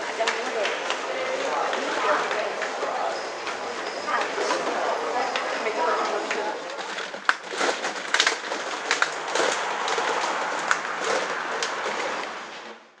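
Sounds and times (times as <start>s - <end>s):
plastic sphere rolling on asphalt: 0.0s - 13.0s.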